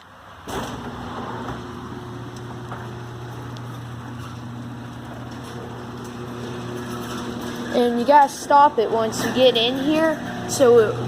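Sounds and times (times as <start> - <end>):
electric motor humming: 0.7 - 11.0.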